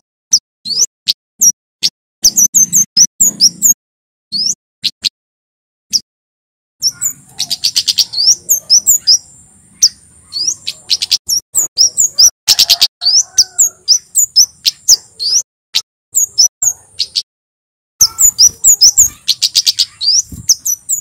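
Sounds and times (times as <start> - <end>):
bird singing high chirps: 0.3 - 1.6, 2.2 - 5.0, 6.8 - 15.5, 16.2 - 17.3, 18.0 - 21.0.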